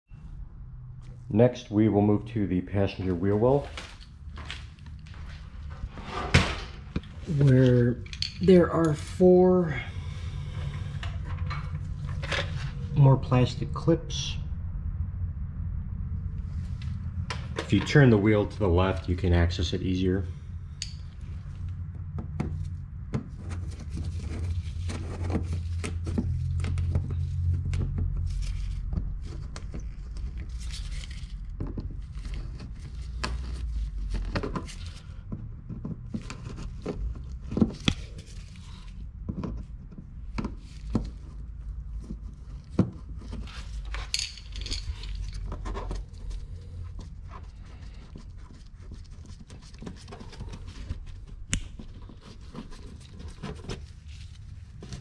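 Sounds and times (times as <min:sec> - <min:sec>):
steady low hum: 0:00.1 - 0:55.0.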